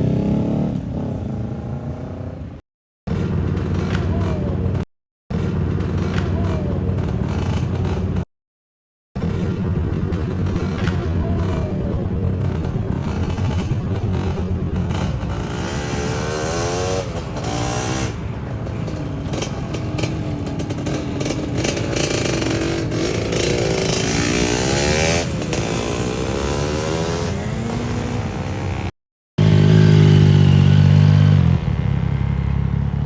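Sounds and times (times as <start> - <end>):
motorcycle engines running: 0.0 - 8.3, 9.2 - 33.0
motorcycle revving: 0.0 - 8.3, 9.2 - 33.0.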